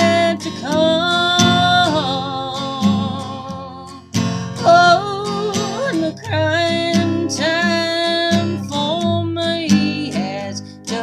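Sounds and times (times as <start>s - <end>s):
acoustic guitar strumming: 0.0s - 11.0s
woman singing country ballad: 0.0s - 11.0s.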